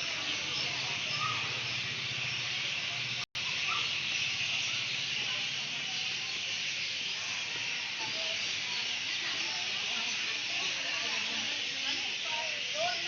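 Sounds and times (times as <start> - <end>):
bird chirps: 0.0 - 13.0
chorus of many birds calling: 0.0 - 13.0.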